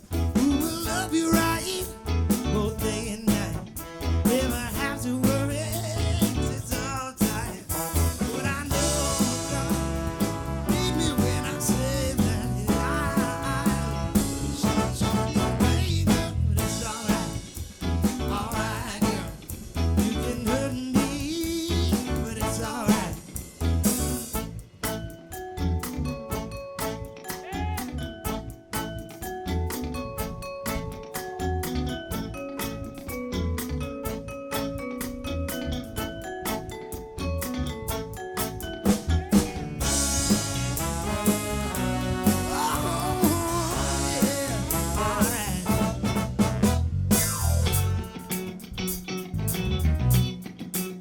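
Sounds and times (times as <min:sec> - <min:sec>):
drums and bass beat: 0:00.0 - 0:51.0
live band playing: 0:00.0 - 0:51.0.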